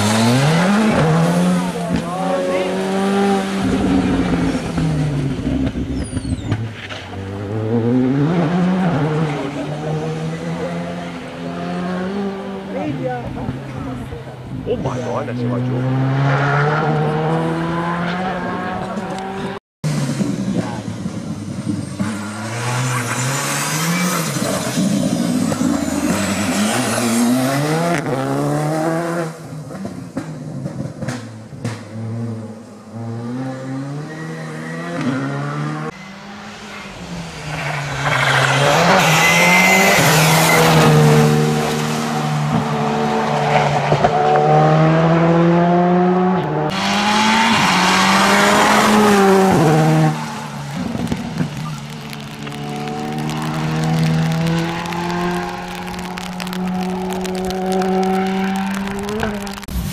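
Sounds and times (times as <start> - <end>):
rally car engine revving: 0.0 - 59.9
tyre noise on wet road: 0.0 - 59.9.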